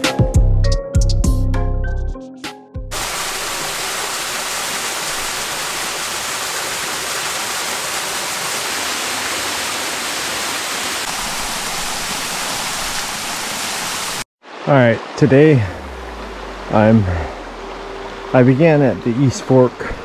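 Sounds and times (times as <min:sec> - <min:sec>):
rushing water: 0:02.9 - 0:20.0.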